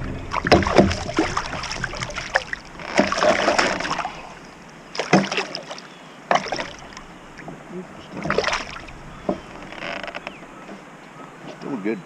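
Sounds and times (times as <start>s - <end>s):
knocks and clicks in a kayak: 0.0s - 11.8s.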